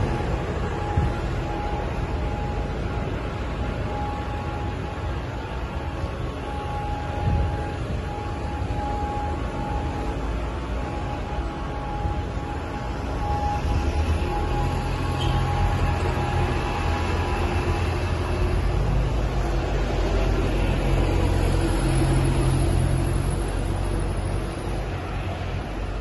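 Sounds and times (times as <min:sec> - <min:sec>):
bus engines rumbling: 0:00.0 - 0:26.0.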